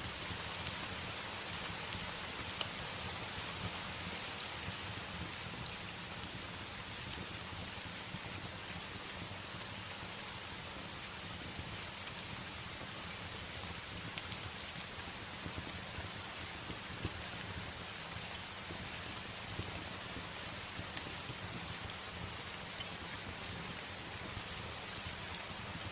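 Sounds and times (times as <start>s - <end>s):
rain beating on a window: 0.0s - 25.9s
wood fire crackling: 0.0s - 25.9s.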